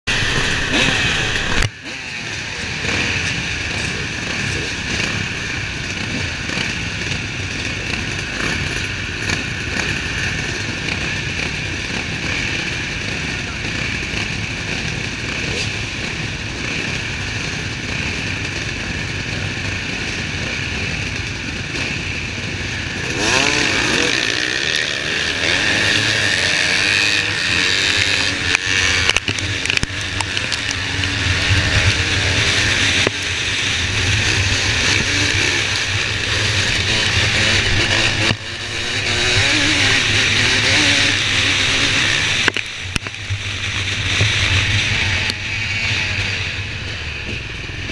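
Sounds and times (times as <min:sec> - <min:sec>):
motocross bikes engines revving: 0:00.1 - 0:47.9
motorcycle engine revving hard: 0:00.1 - 0:47.9.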